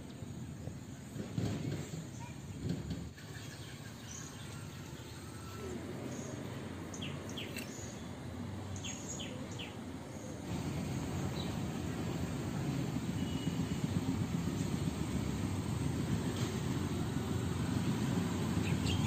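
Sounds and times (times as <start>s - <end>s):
steady low outdoor noise: 0.0s - 19.0s.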